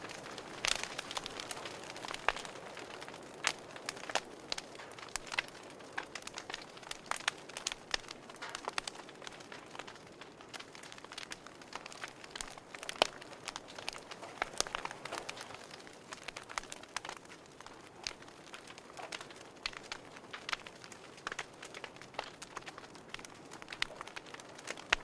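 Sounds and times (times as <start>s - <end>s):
wood logs crackling in fireplace: 0.0s - 25.0s.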